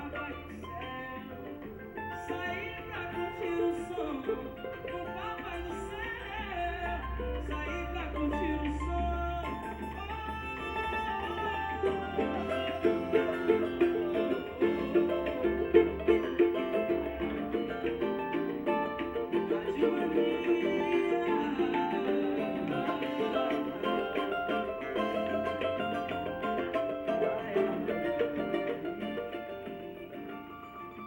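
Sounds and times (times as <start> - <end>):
lively plucked string music: 0.0 - 31.0.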